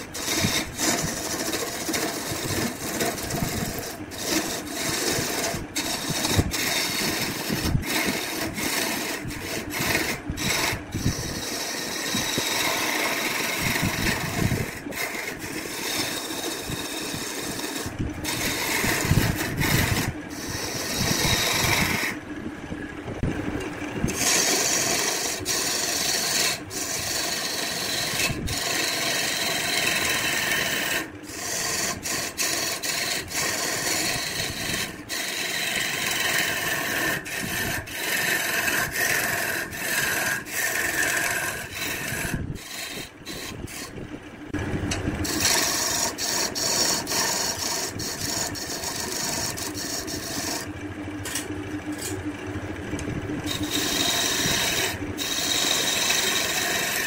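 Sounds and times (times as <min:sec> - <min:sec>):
lathe tool scraping wood: 0:00.0 - 0:22.4, 0:23.2 - 0:52.3, 0:53.0 - 0:57.0.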